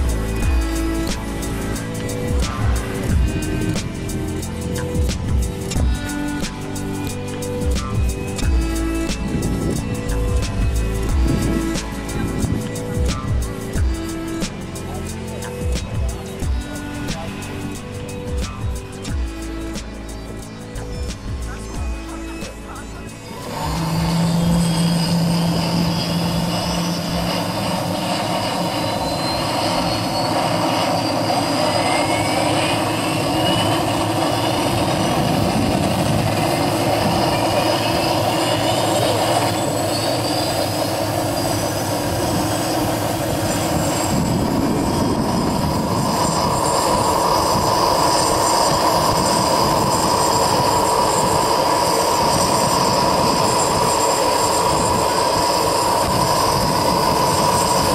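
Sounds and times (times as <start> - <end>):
model helicopter mechanical whine: 0.0 - 57.9.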